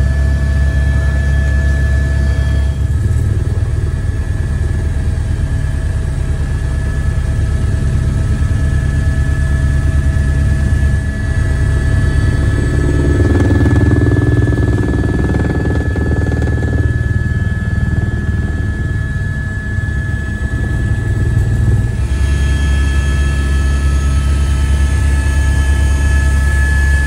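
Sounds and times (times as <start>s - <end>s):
helicopter rotor drone: 0.0s - 27.0s
high turbine whine: 0.0s - 27.0s.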